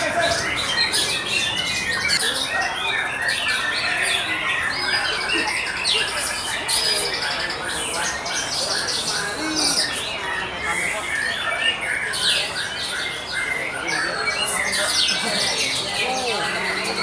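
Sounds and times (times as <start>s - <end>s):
birds singing whistles and trills: 0.0s - 17.0s.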